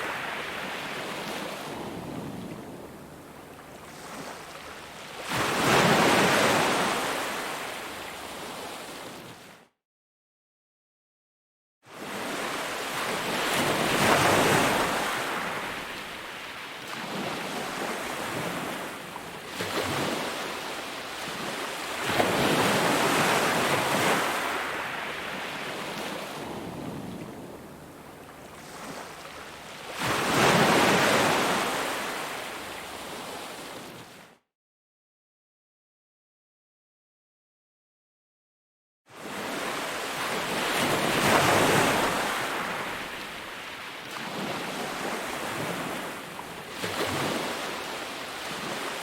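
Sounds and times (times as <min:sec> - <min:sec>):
ocean waves breaking on shore: 0:00.0 - 0:09.6, 0:11.9 - 0:34.4, 0:39.1 - 0:49.0.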